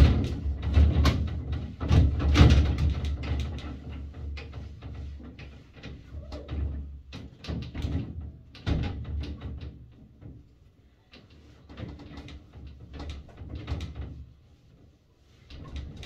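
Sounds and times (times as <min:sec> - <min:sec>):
sliding panels rattling: 0:00.0 - 0:10.6, 0:11.2 - 0:14.4.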